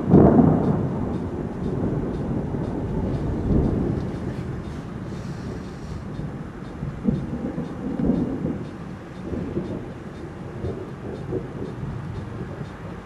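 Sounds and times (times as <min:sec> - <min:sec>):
distant thunder rumbling: 0:00.0 - 0:13.0.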